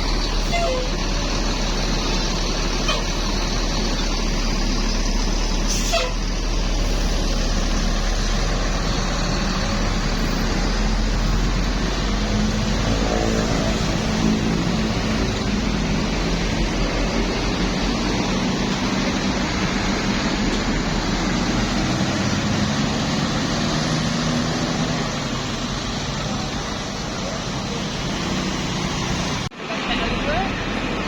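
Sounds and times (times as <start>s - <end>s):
passing vehicle engine hum: 0.0s - 31.0s
road traffic rushing by: 0.0s - 31.0s.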